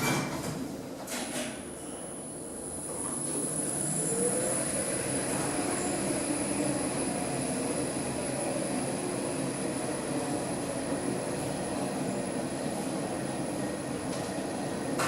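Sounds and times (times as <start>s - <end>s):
train rumbling on the track: 2.4s - 15.0s.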